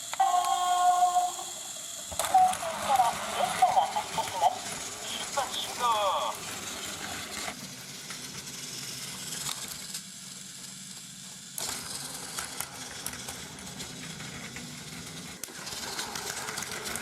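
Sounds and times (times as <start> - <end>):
toy train motor whirring: 0.0 - 17.0
wheels clicking on track: 1.1 - 17.0.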